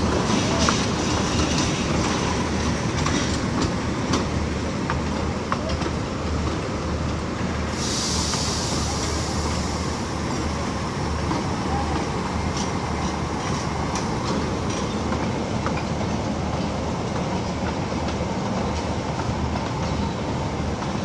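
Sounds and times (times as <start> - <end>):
train coaches rumbling past: 0.0 - 21.0.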